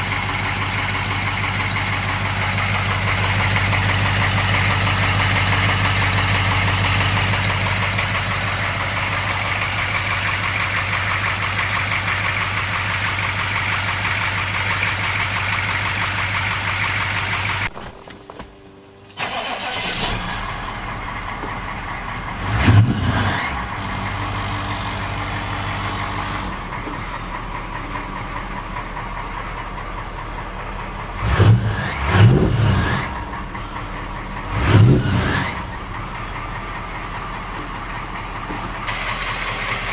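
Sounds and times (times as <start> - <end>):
diesel truck engine running: 0.0 - 17.8, 18.5 - 39.9.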